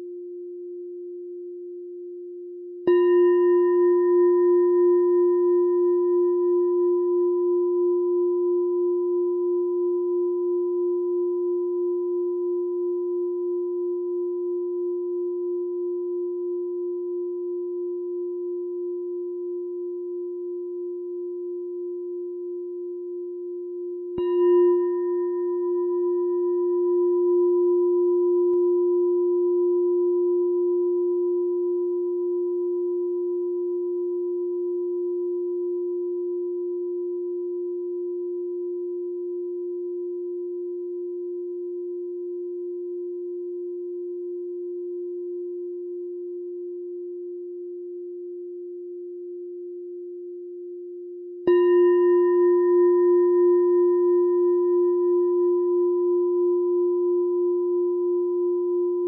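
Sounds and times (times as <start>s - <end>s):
meditation bell ringing: 2.8s - 22.5s, 23.3s - 49.6s, 51.4s - 59.0s.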